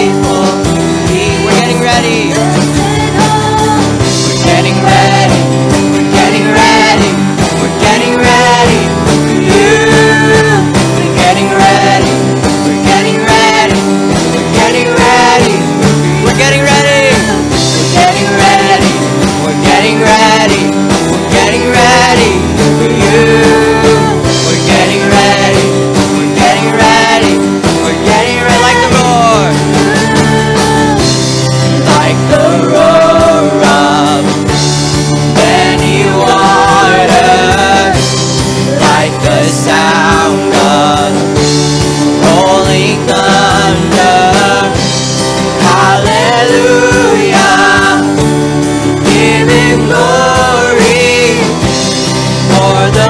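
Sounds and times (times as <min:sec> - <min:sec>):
wordless singing: 0:00.0 - 0:53.0
worship band playing: 0:00.0 - 0:53.0.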